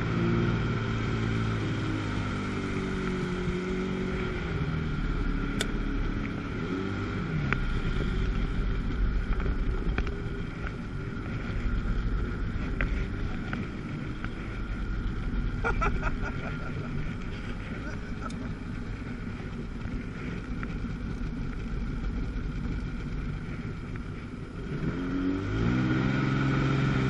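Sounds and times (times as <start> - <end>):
jet ski engine: 0.0 - 27.0.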